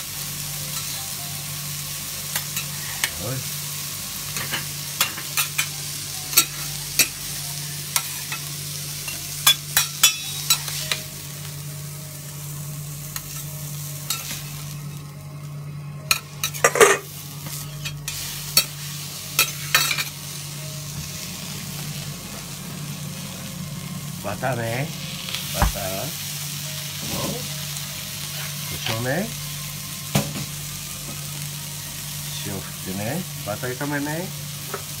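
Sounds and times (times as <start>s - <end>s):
food sizzling on griddle: 0.0s - 35.0s.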